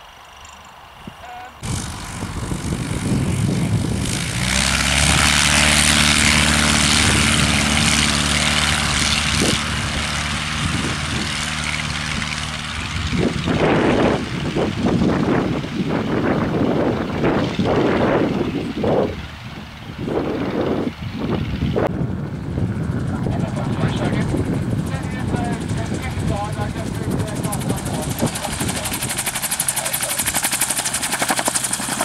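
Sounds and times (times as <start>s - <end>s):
light aircraft engine and propeller: 0.0s - 32.0s.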